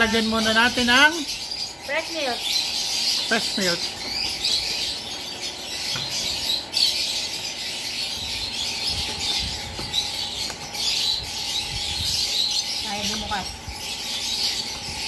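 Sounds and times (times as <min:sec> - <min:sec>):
small birds chirping and squawking: 0:00.0 - 0:15.0.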